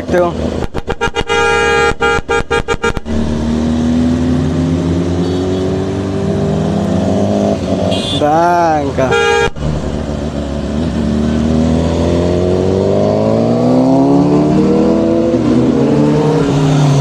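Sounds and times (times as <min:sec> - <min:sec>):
motorcycle engine accelerating: 0:00.4 - 0:08.2, 0:09.2 - 0:17.0.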